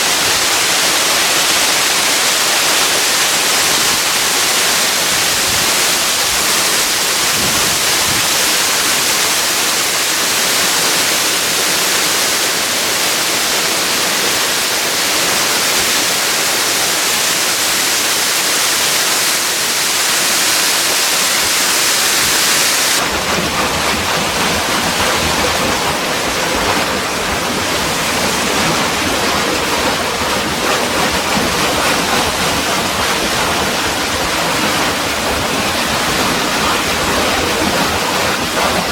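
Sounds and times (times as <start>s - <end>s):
rushing splashing water: 0.0s - 38.9s.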